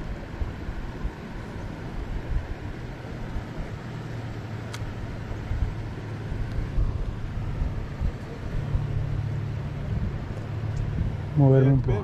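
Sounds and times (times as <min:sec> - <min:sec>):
steady low hum: 0:00.0 - 0:12.0
wind buffeting microphone: 0:00.0 - 0:12.0.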